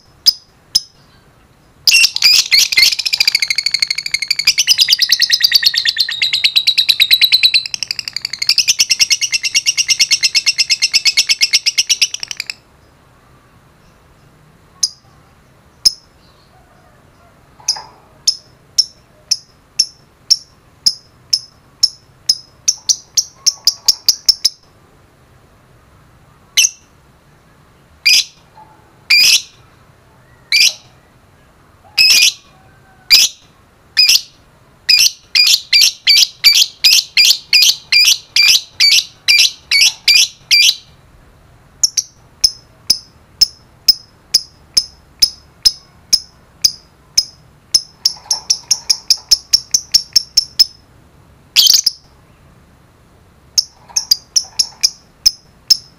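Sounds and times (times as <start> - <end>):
lovebird chirping: 0.0 - 24.8, 26.3 - 32.5, 33.1 - 41.0, 41.8 - 50.9, 51.6 - 52.6, 53.5 - 55.9.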